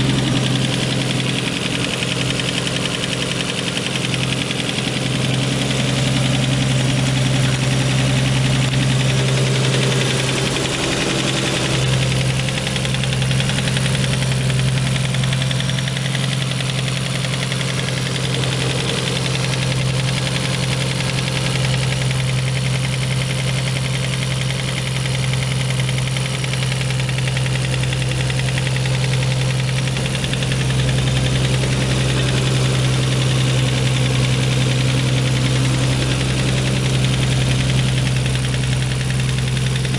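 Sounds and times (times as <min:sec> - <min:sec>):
car engine idling: 0:00.0 - 0:39.9
fast loud engine clacking: 0:00.0 - 0:39.9.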